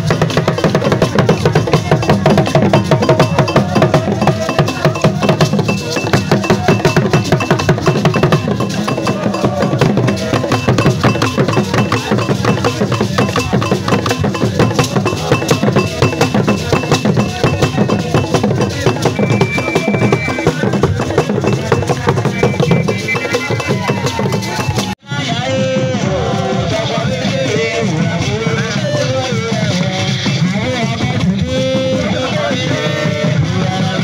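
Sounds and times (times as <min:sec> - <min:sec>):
fast percussion drumming: 0:00.0 - 0:34.0.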